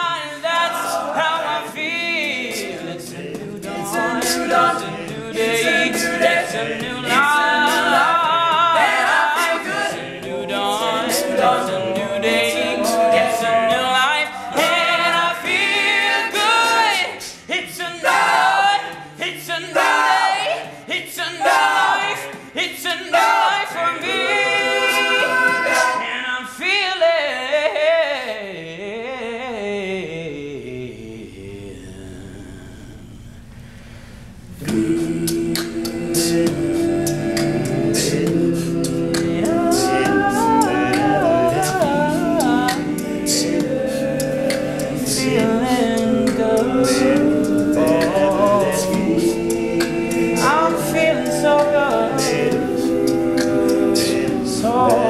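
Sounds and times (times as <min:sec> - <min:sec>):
male group singing a cappella: 0:00.0 - 0:33.2, 0:34.6 - 0:55.0.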